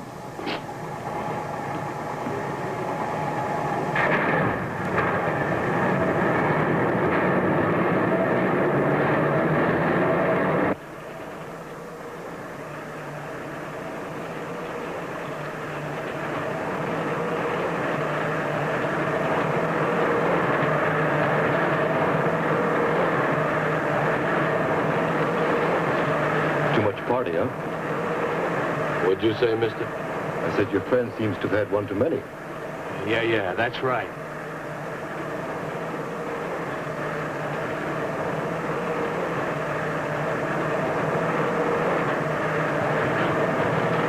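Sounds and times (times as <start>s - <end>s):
subway train rumble and whine: 0.0s - 44.0s.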